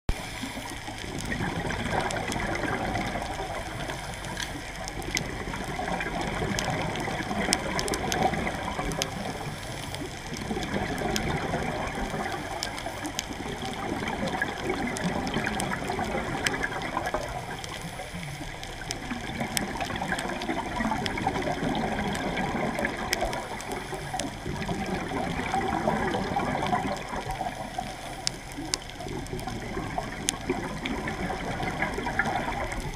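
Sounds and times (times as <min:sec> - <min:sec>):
scuba diver exhaling bubbles: 0:00.1 - 0:32.9
sharp reef clicks: 0:00.1 - 0:32.9.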